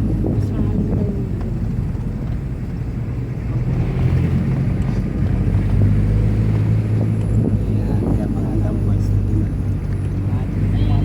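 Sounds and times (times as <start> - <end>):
low engine hum: 0.0 - 11.0
road noise: 0.0 - 11.0.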